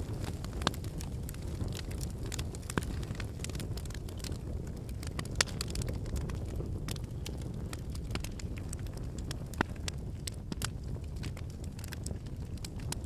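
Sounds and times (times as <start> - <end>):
logs crackling and popping: 0.0 - 13.0
low rumble of flame: 0.0 - 13.0.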